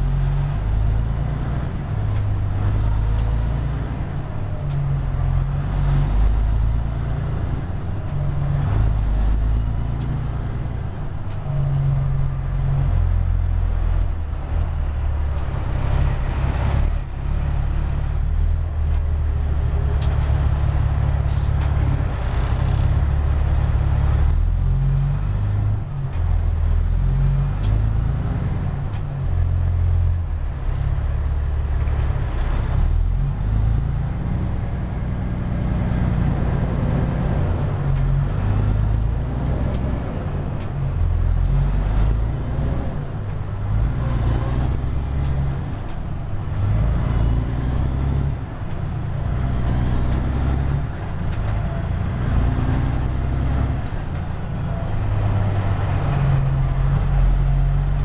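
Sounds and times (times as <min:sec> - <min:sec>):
truck diesel engine revving: 0:00.0 - 0:58.0.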